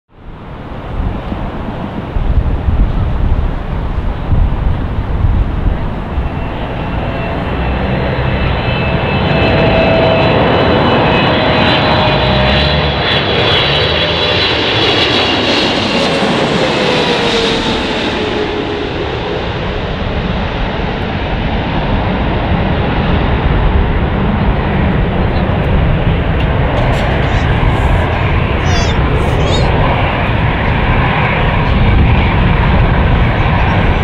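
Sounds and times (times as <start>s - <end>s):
jet airliner passing overhead: 0.2s - 34.0s.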